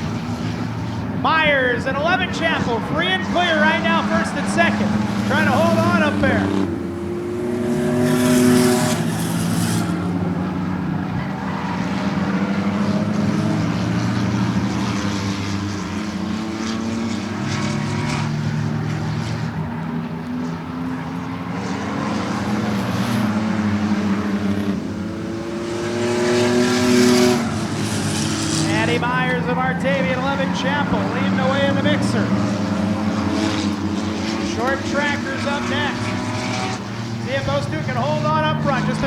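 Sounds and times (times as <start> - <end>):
race cars passing at speed: 0.0 - 39.0.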